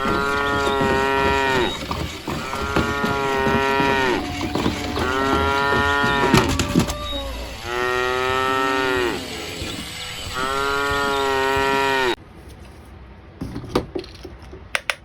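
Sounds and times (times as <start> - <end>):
toy cow mooing: 0.0 - 12.2.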